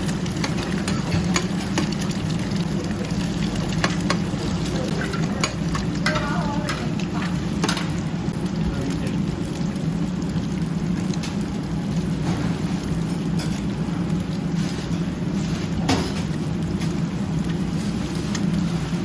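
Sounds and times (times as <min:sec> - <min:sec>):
pancakes sizzling in a pan: 0:00.0 - 0:19.0.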